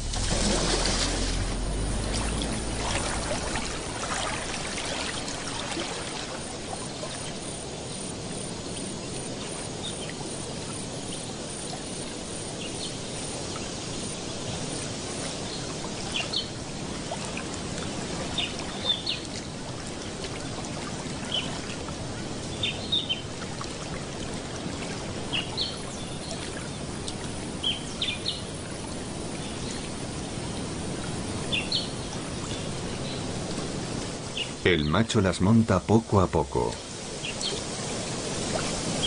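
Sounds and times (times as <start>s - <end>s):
water-like noise: 0.0s - 39.0s.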